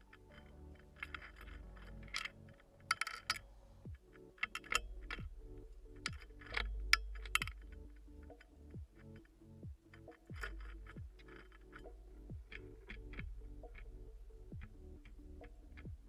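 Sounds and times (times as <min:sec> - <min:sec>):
soft ambient music: 0:00.0 - 0:16.0.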